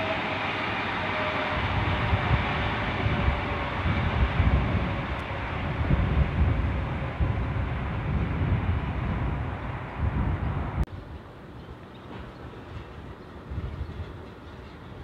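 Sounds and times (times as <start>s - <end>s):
diesel locomotive rumble: 0.0s - 15.0s
train rushing: 0.0s - 15.0s.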